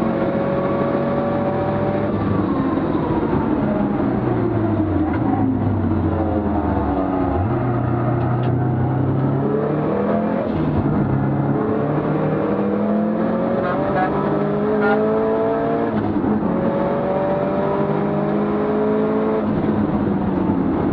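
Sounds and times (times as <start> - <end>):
race car engine accelerating: 0.0 - 20.9.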